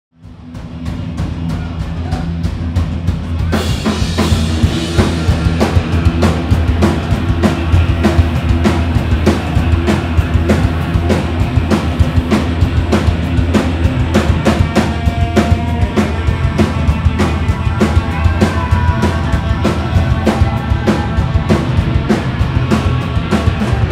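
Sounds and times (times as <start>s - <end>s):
drum kit beating: 0.2s - 23.9s
rock band playing: 0.2s - 23.9s.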